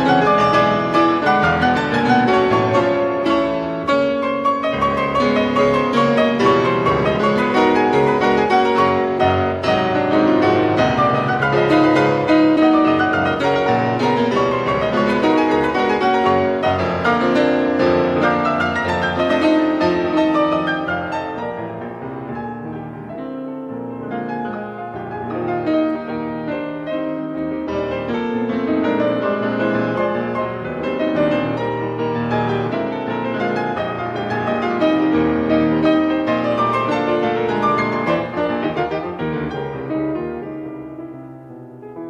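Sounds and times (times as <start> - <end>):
solo piano waltz: 0.0 - 42.0.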